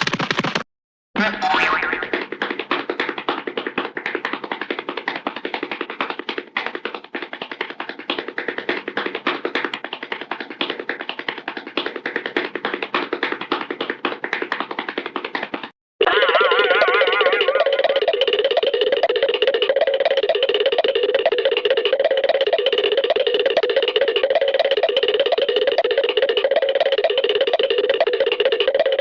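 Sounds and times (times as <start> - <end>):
fast bongo patter: 1.6 - 29.0.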